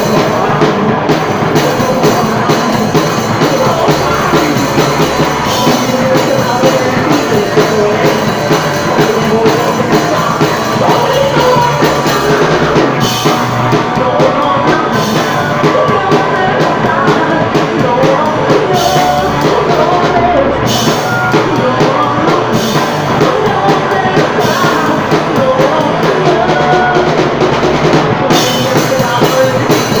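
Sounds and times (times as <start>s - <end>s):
drum kit steady beat: 0.0s - 30.0s
live band music: 0.0s - 30.0s.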